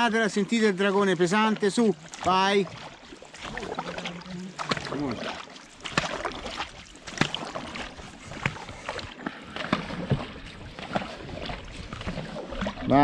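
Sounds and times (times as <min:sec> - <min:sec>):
paddles striking water: 0:00.0 - 0:13.0
water rushing along hull: 0:00.0 - 0:13.0.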